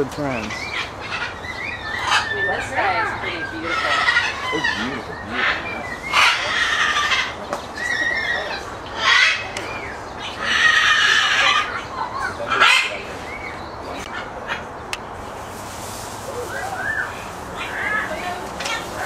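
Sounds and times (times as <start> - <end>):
parrots screeching: 0.5 - 14.7, 16.4 - 19.0.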